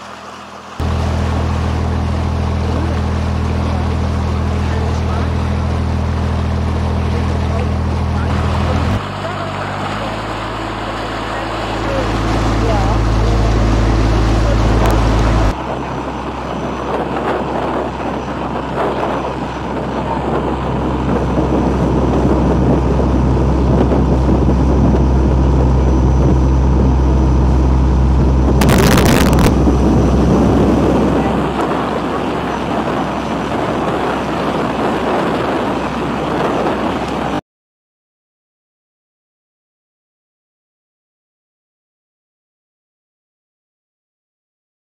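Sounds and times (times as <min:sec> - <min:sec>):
boat engine running: 0:00.0 - 0:37.4
wind and water rushing: 0:00.0 - 0:37.4.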